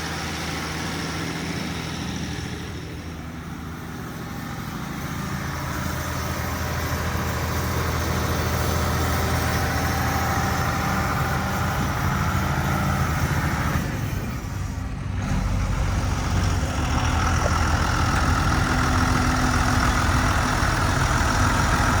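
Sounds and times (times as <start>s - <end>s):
diesel tractor engine running: 0.0s - 22.0s.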